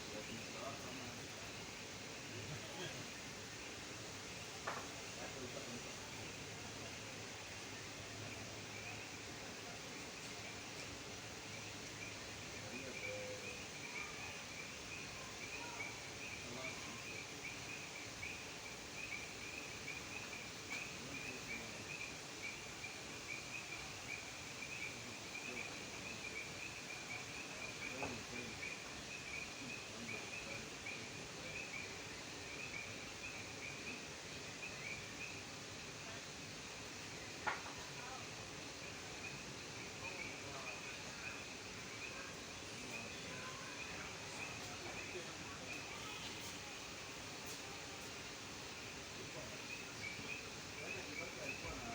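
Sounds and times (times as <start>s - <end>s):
steady outdoor hiss: 0.0s - 51.9s.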